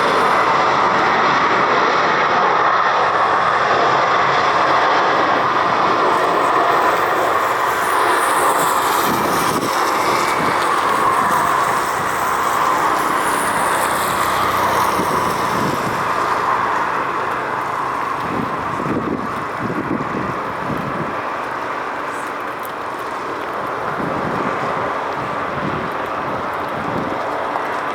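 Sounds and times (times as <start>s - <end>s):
jet engine noise landing: 0.0s - 27.9s.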